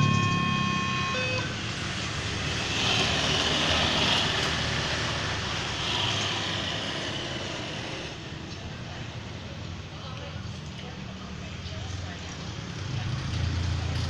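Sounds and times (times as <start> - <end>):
train rumble and rail noise: 0.0 - 14.0.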